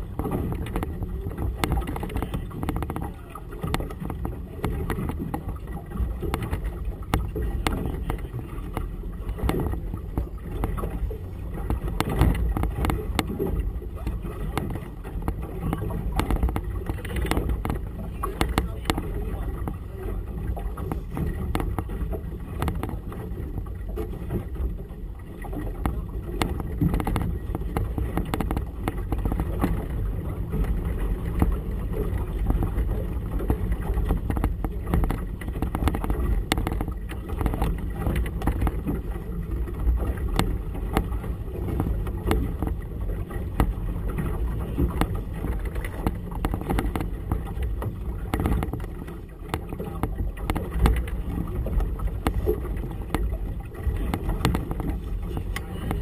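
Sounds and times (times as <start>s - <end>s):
water knocking and slapping: 0.0s - 56.0s
wind and water rumble: 0.0s - 56.0s.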